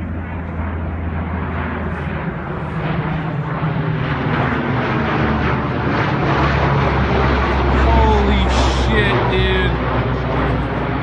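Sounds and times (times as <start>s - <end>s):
aircraft engines droning overhead: 0.0s - 11.0s.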